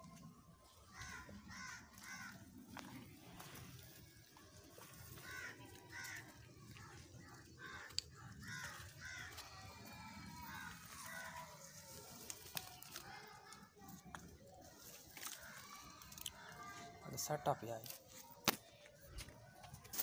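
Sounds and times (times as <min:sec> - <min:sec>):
crows cawing faintly: 0:00.1 - 0:13.7, 0:14.4 - 0:19.8.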